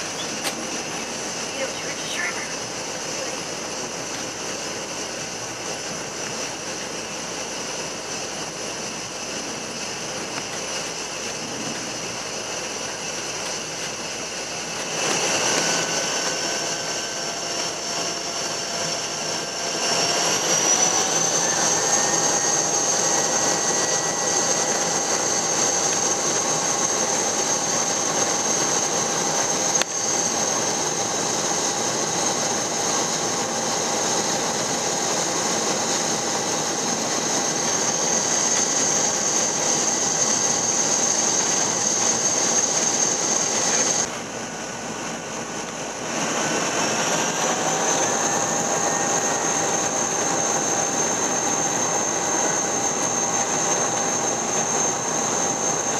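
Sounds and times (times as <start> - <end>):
propeller noise: 0.0 - 55.9
turboprop turbine whine: 0.0 - 55.9.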